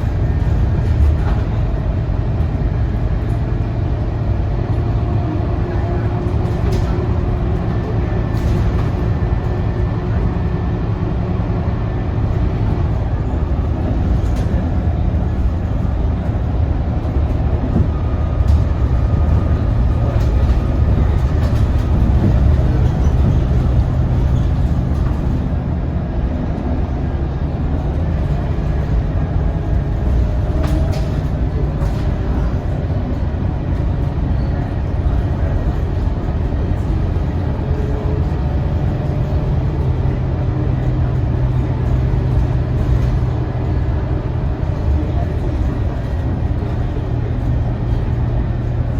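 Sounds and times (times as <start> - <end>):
bus diesel engine running: 0.0 - 48.9
road rumble: 0.0 - 48.9.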